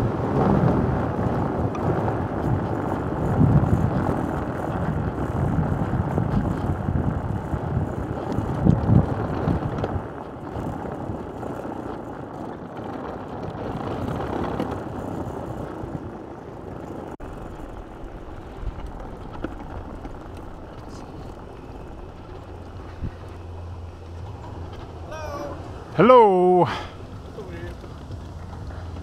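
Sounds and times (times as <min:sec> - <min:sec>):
cart wheels rattling over pavers: 0:00.8 - 0:29.0.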